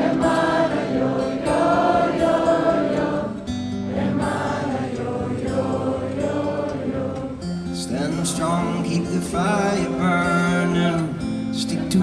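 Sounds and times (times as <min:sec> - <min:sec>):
choir-like wordless singing: 0:00.0 - 0:12.0.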